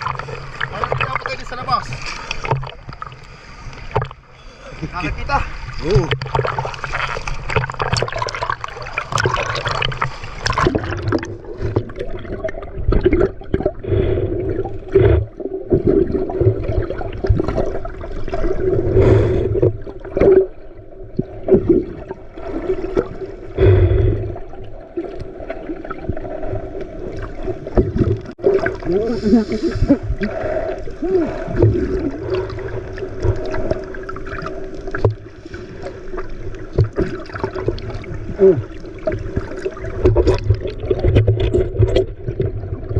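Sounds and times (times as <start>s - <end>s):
water splashing around a boat: 0.0s - 42.9s.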